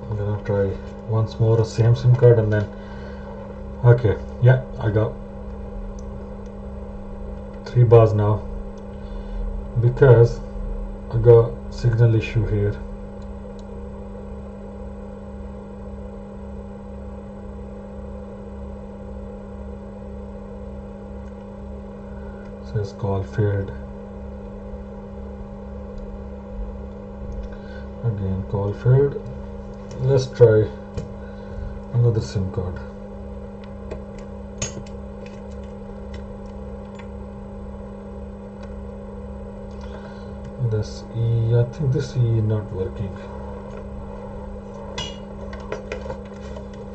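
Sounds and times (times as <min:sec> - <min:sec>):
electrical hum: 0:00.0 - 0:46.9
soft low pulsing throb: 0:00.0 - 0:46.9.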